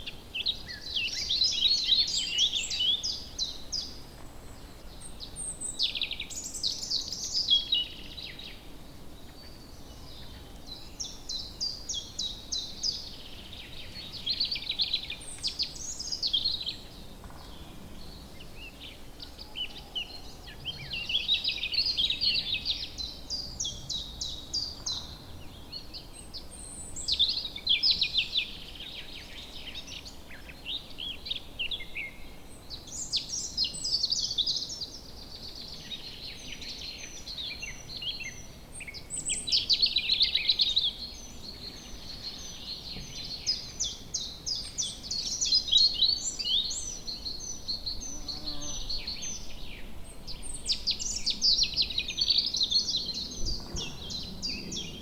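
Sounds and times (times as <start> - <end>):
faint background hiss: 0.0 - 55.0
songbirds singing: 0.0 - 55.0.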